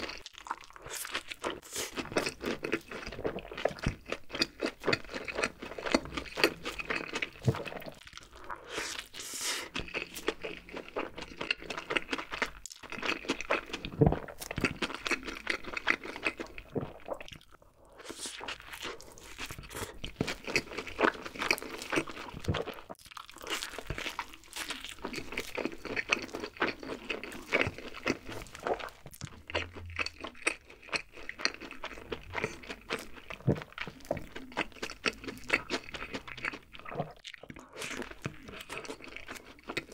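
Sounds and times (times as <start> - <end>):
person chewing burger: 0.0 - 39.9.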